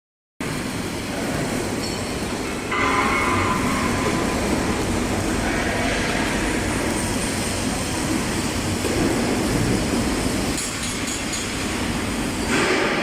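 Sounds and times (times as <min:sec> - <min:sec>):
laser cutting machine running: 0:00.4 - 0:13.0
machine whine: 0:00.4 - 0:13.0.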